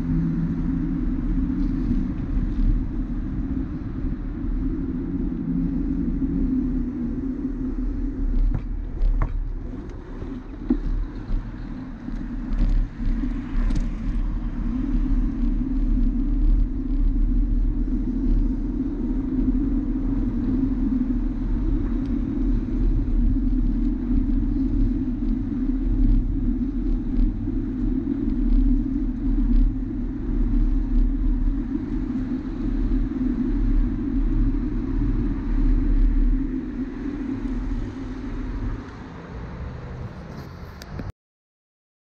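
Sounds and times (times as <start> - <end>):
bicycle tyre noise: 0.0 - 39.1
wind rumble: 0.0 - 41.1.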